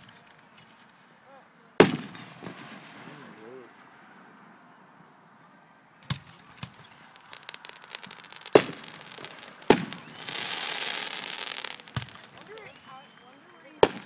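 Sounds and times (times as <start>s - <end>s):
fireworks bangs: 0.0s - 1.2s, 1.8s - 4.4s, 6.0s - 14.0s
fireworks crackling: 0.0s - 4.2s, 6.0s - 14.0s.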